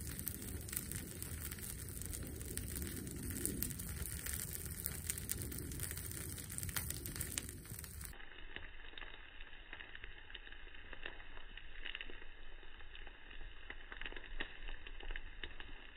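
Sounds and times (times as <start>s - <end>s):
burning log crackling and popping: 0.0s - 15.9s.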